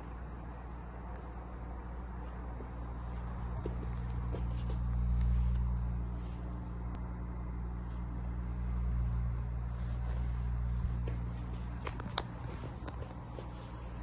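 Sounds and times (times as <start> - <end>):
massage chair motors humming: 0.0 - 14.0.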